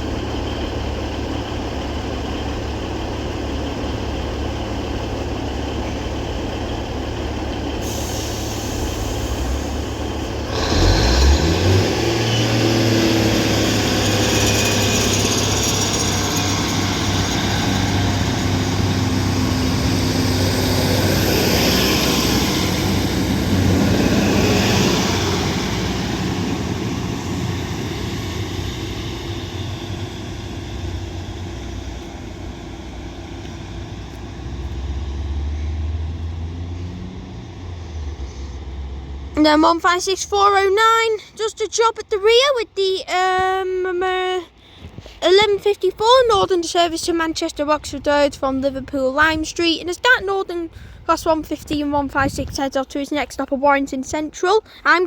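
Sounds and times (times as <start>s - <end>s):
diesel train engines: 0.0s - 55.0s.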